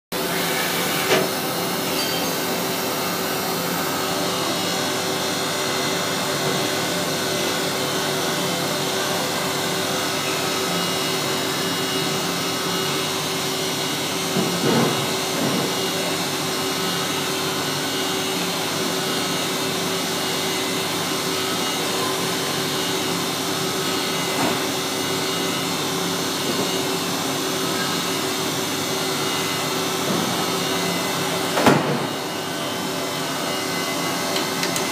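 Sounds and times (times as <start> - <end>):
constant machine hum: 0.2 - 34.9.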